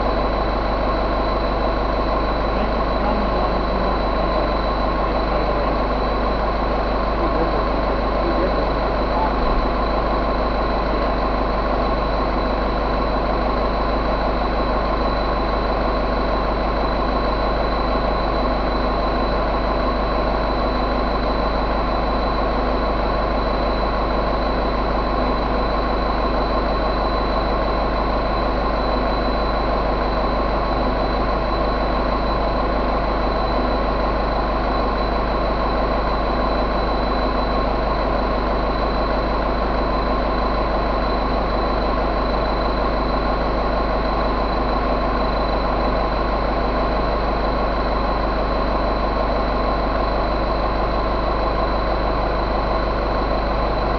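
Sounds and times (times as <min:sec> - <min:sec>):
diesel engine idling: 0:00.0 - 0:53.9
thin high whine: 0:00.0 - 0:53.9.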